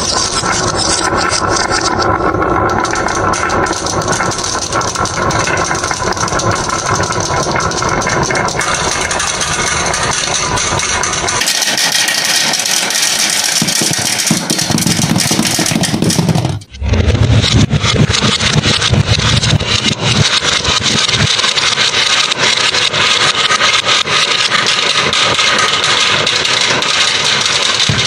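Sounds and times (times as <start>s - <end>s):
deep rumble: 0.0s - 23.3s
marbles rattling on wooden track: 0.0s - 28.0s.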